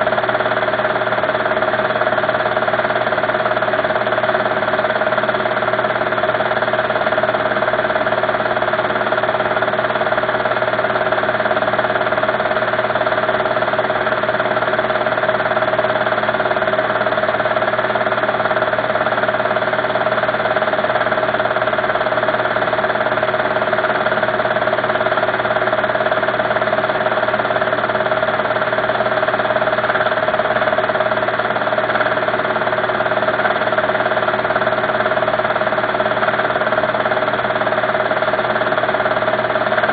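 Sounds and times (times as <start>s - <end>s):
motor hum: 0.0s - 39.9s.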